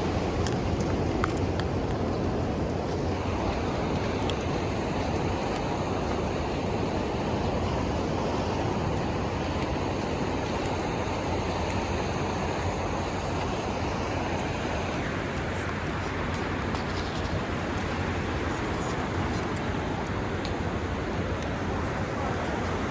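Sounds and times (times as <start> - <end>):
ocean surf and wind roar: 0.0 - 22.9.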